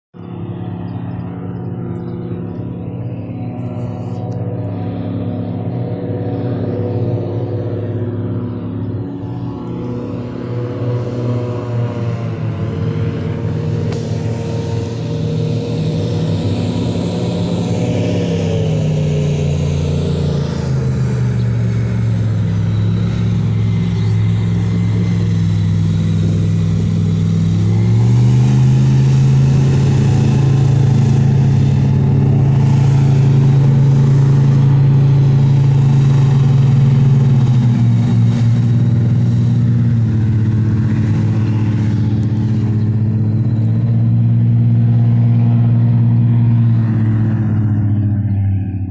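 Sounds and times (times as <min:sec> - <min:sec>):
airboat engine and propeller: 0:00.1 - 0:48.9.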